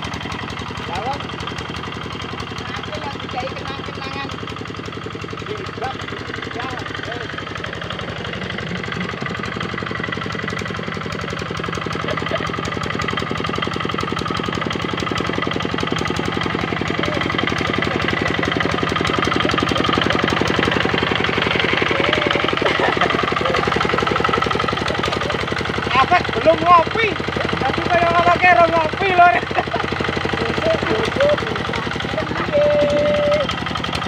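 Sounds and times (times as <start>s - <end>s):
diesel engine knocking: 0.0s - 34.0s.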